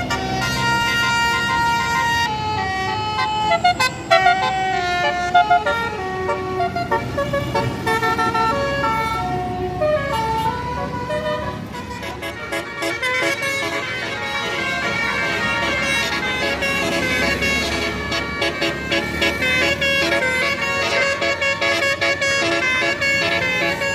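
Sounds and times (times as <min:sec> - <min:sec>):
musical bus horn playing a tune: 0:00.0 - 0:23.9.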